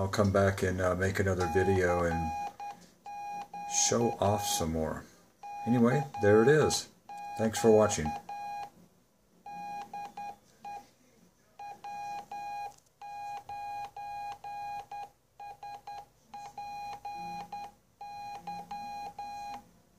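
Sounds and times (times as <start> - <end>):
morse code beeps: 1.3 - 4.7, 5.4 - 8.7, 9.5 - 10.8, 11.6 - 19.6.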